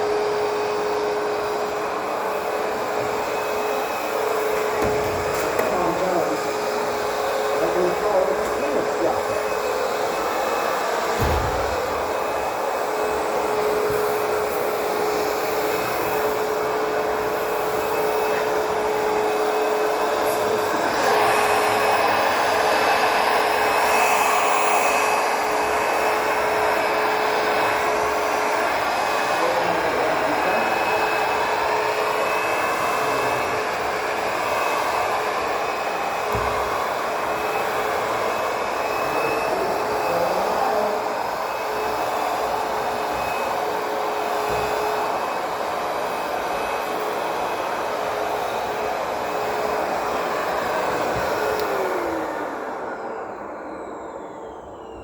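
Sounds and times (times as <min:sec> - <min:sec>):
rushing airflow: 0:00.0 - 0:53.5
vacuum motor whine: 0:00.0 - 0:55.0.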